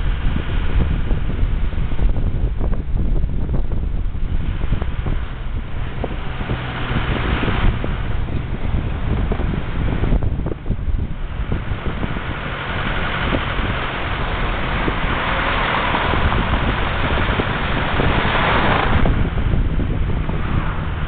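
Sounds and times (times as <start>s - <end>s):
vehicle road rumble: 0.0s - 21.0s
wind buffeting microphone: 0.0s - 21.0s.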